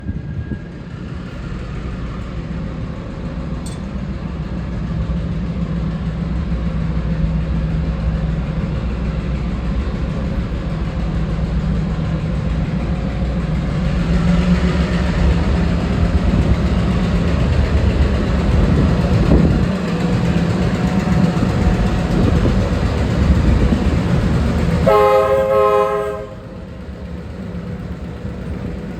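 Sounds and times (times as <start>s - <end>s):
locomotive engine rumbling: 0.0s - 28.9s.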